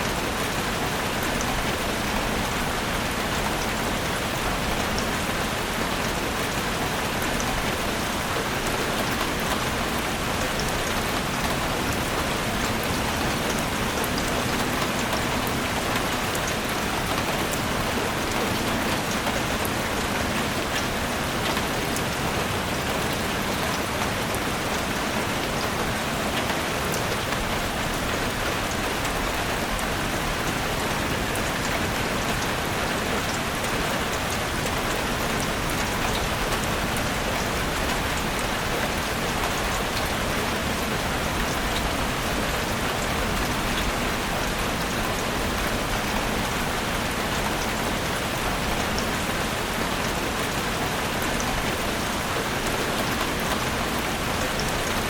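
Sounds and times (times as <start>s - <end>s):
steady rain in forest: 0.0s - 55.0s.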